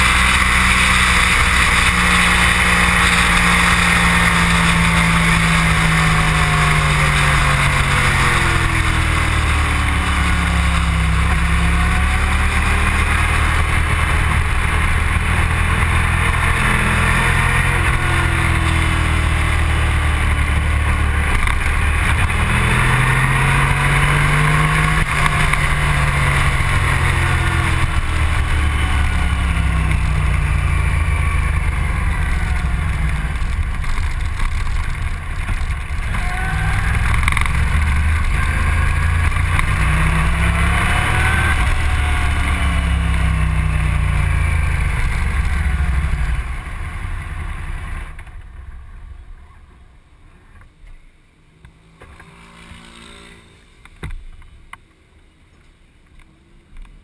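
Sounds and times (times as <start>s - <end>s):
motorcycle engine: 0.0s - 54.6s.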